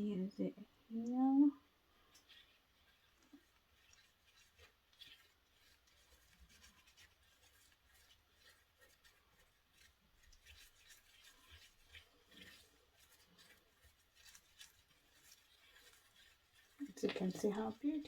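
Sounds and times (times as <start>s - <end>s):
paintbrush scratchy strokes: 1.6s - 18.0s.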